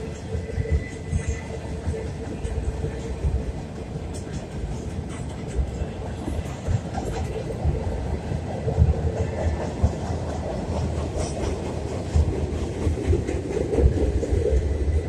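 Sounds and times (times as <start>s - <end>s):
train rumbling over steel trestle: 0.0s - 15.0s.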